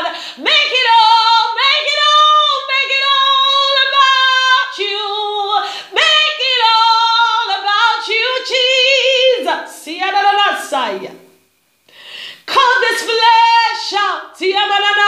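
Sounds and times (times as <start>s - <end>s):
woman singing unaccompanied: 0.0s - 11.2s, 12.4s - 15.0s.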